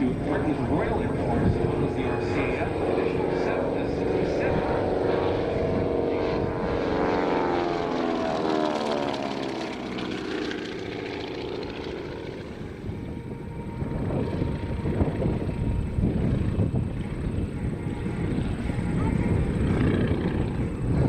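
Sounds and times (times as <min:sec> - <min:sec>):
propeller plane engines passing: 0:00.0 - 0:21.0.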